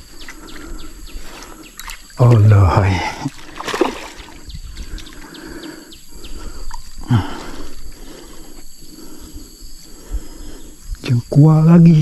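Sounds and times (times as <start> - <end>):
bird chirping: 0.0 - 3.1, 4.2 - 12.0.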